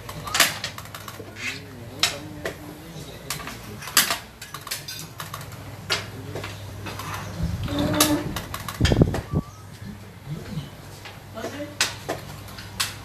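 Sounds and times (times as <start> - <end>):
low steady hum: 1.0 - 13.0.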